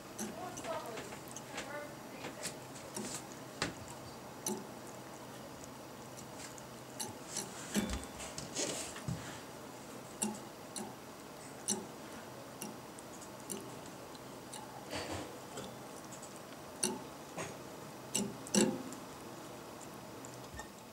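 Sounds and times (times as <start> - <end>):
cat licking metal wire: 0.0 - 19.0
computer hum: 0.0 - 20.9.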